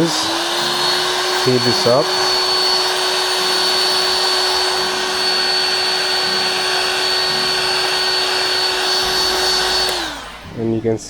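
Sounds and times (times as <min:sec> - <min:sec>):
heat gun blowing with whine: 0:00.0 - 0:11.0.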